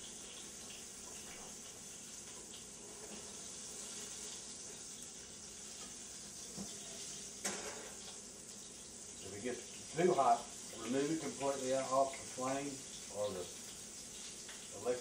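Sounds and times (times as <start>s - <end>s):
shrimp frying in hot oil: 0.0s - 15.0s.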